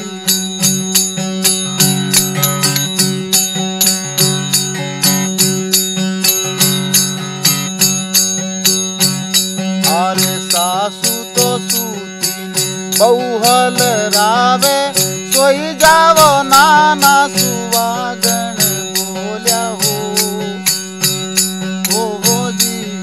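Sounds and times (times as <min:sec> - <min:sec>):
jingling wooden clappers: 0:00.0 - 0:23.0
wavering melodic line: 0:00.0 - 0:23.0.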